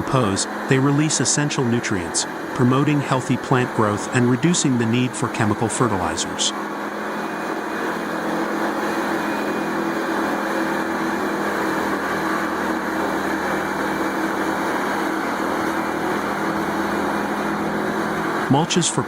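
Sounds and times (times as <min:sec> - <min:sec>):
wood chipper engine drone: 0:00.0 - 0:19.0.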